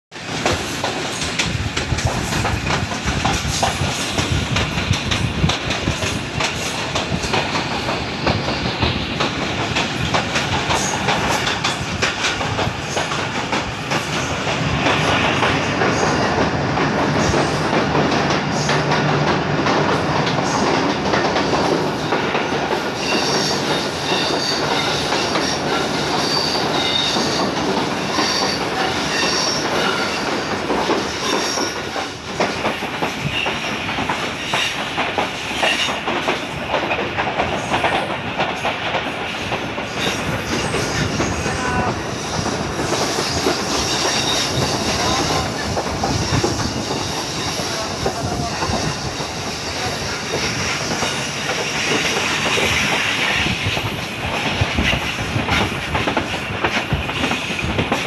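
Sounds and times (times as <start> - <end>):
train wheels clattering over rail joints: 0.1 - 58.0
train wheels squealing: 0.3 - 16.4, 17.0 - 19.3, 19.9 - 58.0.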